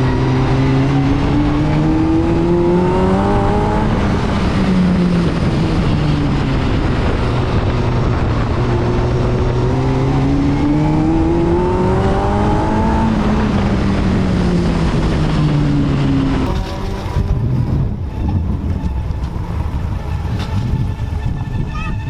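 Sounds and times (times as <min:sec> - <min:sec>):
race car engine running hard: 0:00.0 - 0:21.7.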